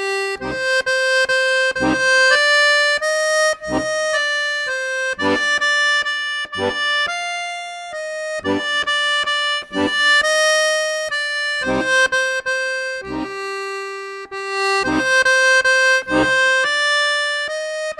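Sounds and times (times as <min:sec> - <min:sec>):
accordion melody: 0:00.0 - 0:17.9.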